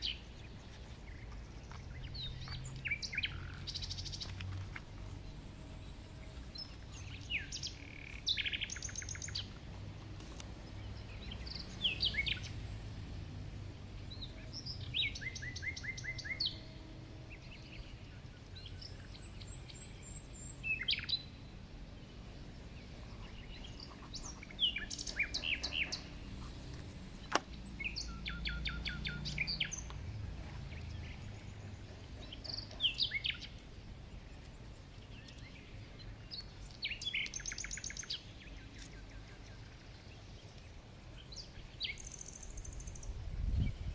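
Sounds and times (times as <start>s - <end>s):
low steady rumble: 0.0s - 43.9s
songbird singing: 0.0s - 43.9s.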